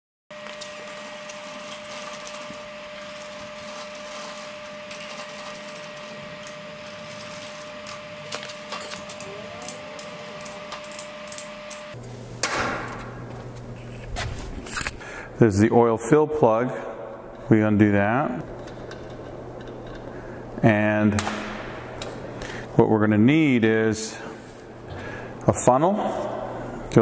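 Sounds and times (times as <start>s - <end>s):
steady hum: 0.3s - 27.0s.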